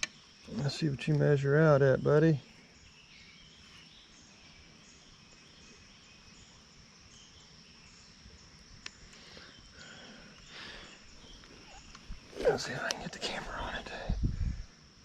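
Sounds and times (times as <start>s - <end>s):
bird chirps: 0.0s - 14.1s
insects buzzing: 0.0s - 15.0s.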